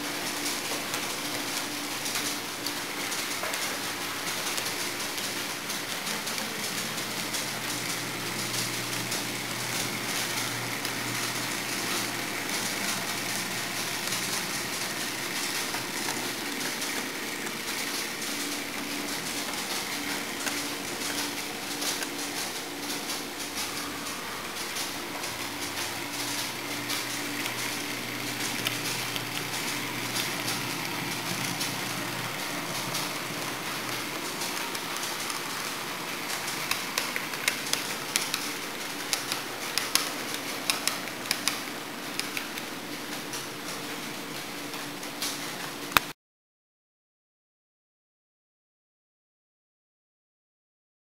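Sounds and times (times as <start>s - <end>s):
model train motor hum: 0.0s - 46.0s
wheel noise on track: 0.0s - 46.1s.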